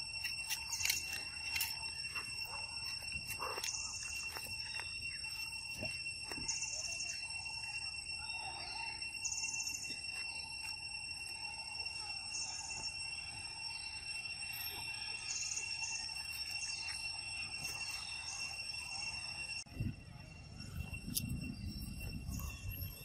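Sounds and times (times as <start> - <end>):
high-pitched insect chorus: 0.0 - 23.0
outdoor background noise: 0.0 - 23.0.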